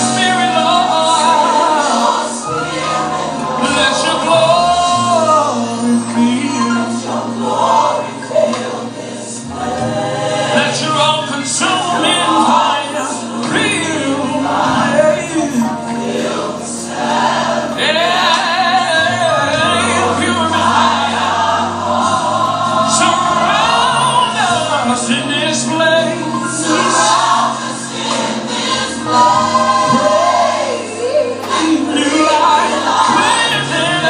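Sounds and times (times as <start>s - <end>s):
band playing: 0.0s - 34.0s
gospel choir singing: 0.0s - 34.0s.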